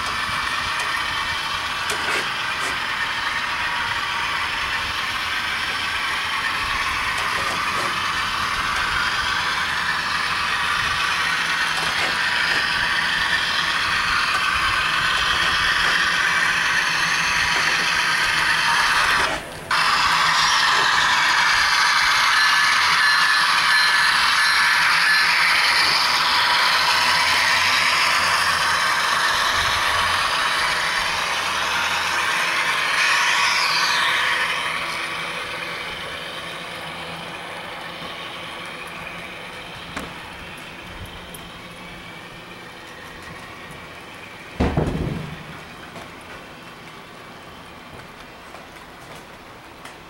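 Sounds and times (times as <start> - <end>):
model trains running on rails: 0.0 - 50.0.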